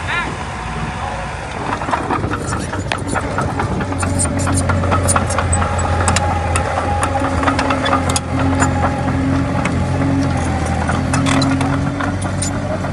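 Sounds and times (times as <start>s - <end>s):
bulldozer diesel engine running: 0.0s - 12.9s.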